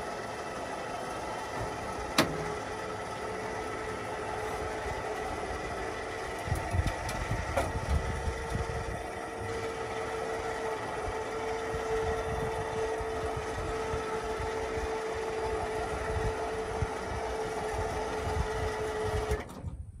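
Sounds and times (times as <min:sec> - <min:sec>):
truck engine idling: 0:00.0 - 0:19.4.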